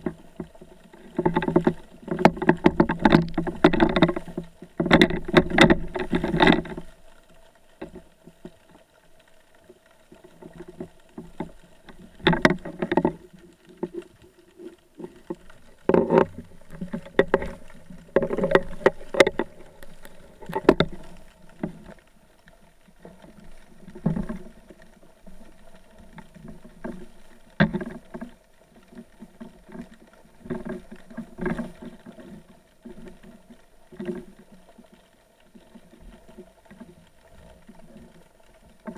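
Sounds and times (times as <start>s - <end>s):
water sloshing: 0.0s - 38.9s.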